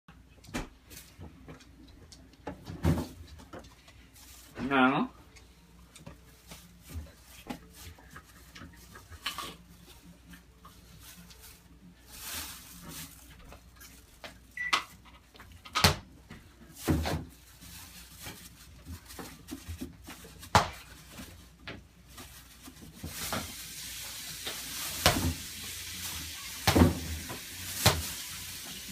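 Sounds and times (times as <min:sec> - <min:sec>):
items handled in refrigerator: 0:00.2 - 0:23.6.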